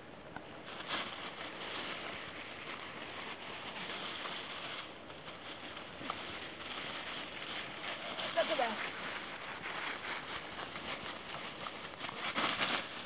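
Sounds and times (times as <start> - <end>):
dry leaves rustling and crackling: 0.5 - 13.0
dog scrabbling through leaves: 0.6 - 13.0.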